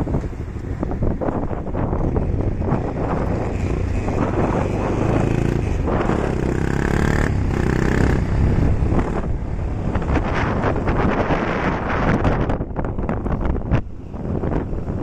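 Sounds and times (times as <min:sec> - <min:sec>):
wind buffeting microphone: 0:00.0 - 0:15.0
motorcycle engine: 0:01.8 - 0:15.0.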